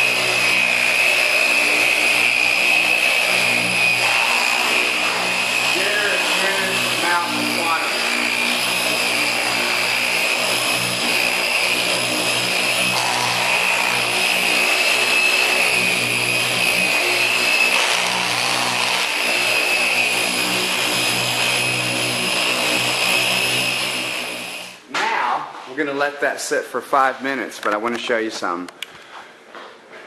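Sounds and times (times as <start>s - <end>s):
machine polisher whining: 0.0s - 24.8s.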